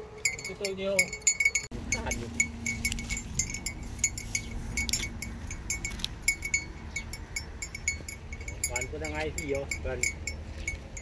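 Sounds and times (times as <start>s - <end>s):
cow bells clinking: 0.1s - 11.0s.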